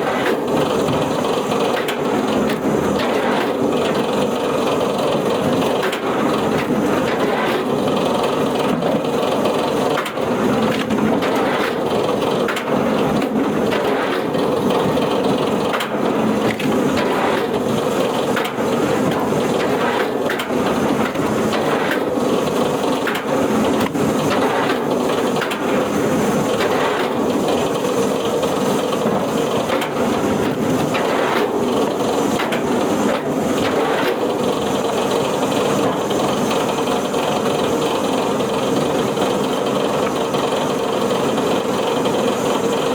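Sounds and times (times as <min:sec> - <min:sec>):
wood-processing machine running: 0:00.0 - 0:42.9.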